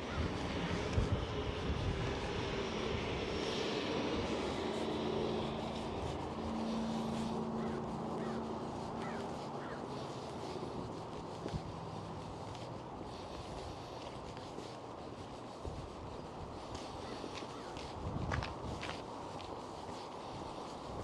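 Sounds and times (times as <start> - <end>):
distant engine drone: 0.0 - 21.0.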